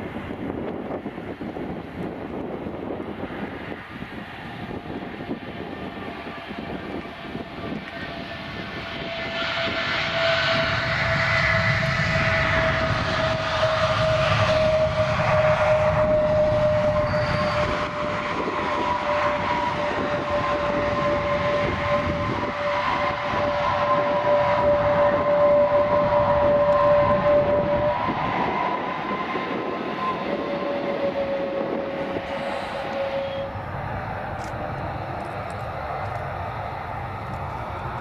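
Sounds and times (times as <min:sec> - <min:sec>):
jet engine rushing noise: 0:00.0 - 0:38.0
jet engine whine falling: 0:00.0 - 0:38.0.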